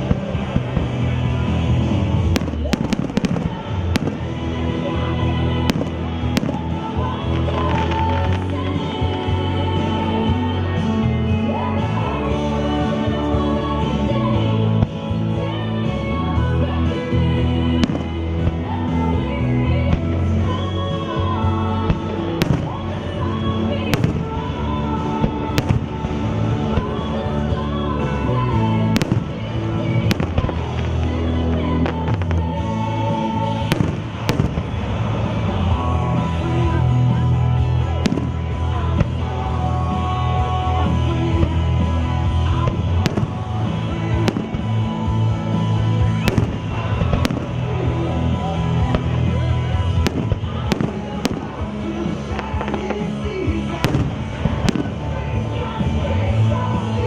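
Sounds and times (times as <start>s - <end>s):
fireworks bursting: 0.0s - 10.9s, 16.2s - 57.0s
music with singing: 0.0s - 57.0s.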